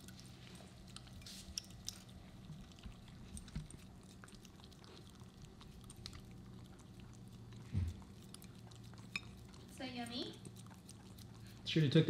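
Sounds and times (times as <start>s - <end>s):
dog licking and chewing: 0.0s - 12.0s
low steady hum: 0.0s - 12.0s.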